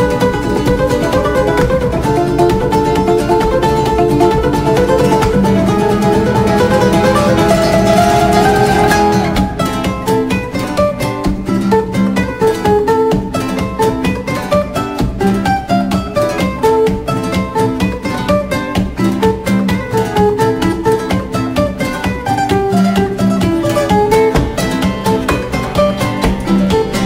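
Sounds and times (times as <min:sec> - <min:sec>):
plucked string music: 0:00.0 - 0:27.0.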